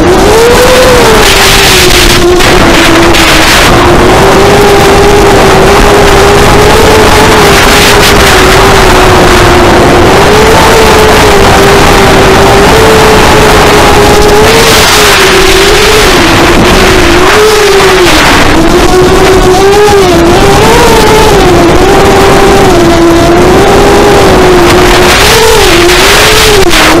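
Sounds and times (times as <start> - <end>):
drone motors whining: 0.0 - 27.0
wind on microphone: 0.0 - 27.0.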